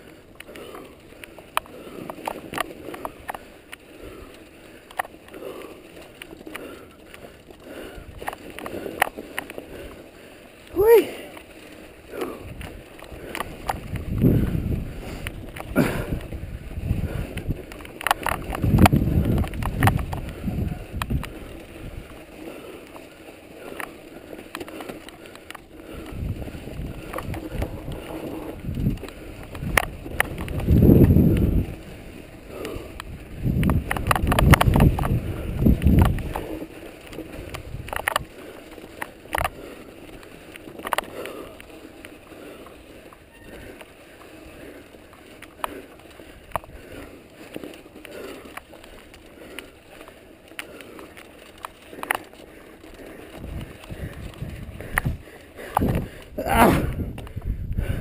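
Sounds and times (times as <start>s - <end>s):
bike clicks and rattles: 0.0s - 58.0s
tyres rolling over snow and stones: 0.0s - 58.0s.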